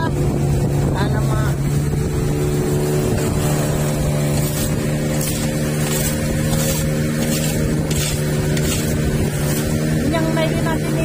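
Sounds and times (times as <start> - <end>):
outboard motor droning: 0.0 - 11.0
water splashing against hull: 0.0 - 11.0.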